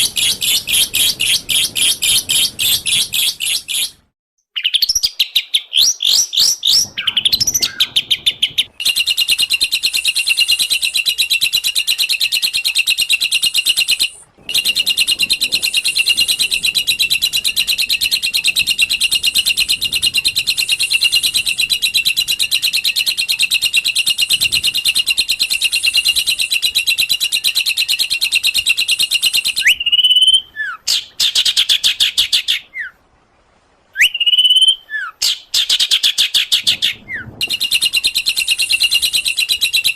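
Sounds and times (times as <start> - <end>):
songbird fast trill: 0.0 - 32.9, 34.0 - 39.9
gliding whistled bird notes: 4.6 - 31.4, 33.9 - 39.9.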